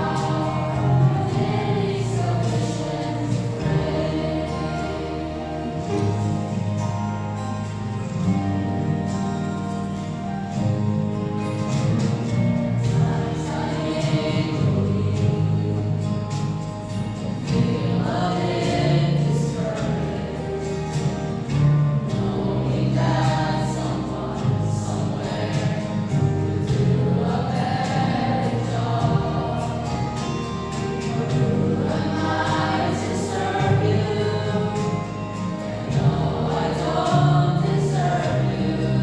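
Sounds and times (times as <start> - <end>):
choir singing gospel song: 0.0 - 39.0.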